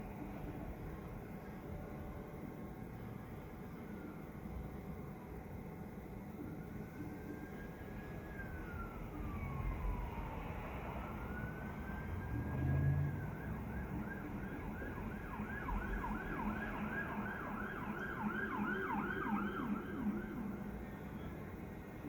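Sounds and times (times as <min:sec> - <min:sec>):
emergency vehicle siren: 0:00.0 - 0:05.3, 0:05.9 - 0:22.0
low rumble of wind or traffic: 0:00.0 - 0:22.0.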